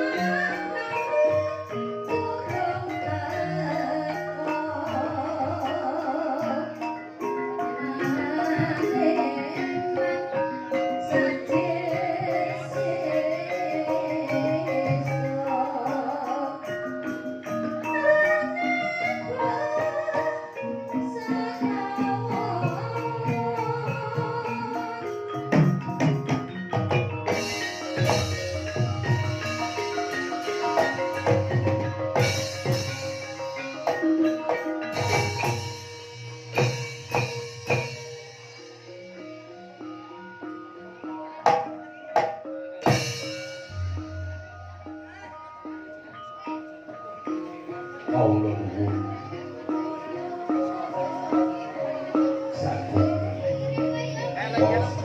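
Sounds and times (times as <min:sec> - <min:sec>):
person singing wavering: 0:00.0 - 0:26.3, 0:36.6 - 0:55.0
drumming: 0:00.0 - 0:55.0
struck mallet instruments: 0:00.0 - 0:55.0.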